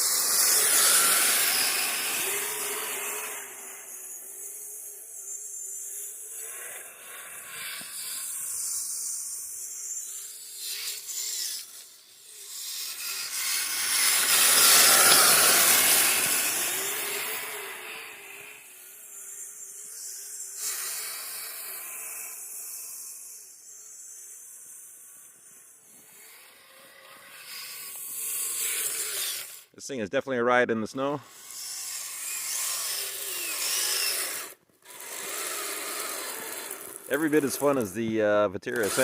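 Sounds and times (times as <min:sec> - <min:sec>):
electric motor whine: 0:00.0 - 0:29.7, 0:31.2 - 0:39.0.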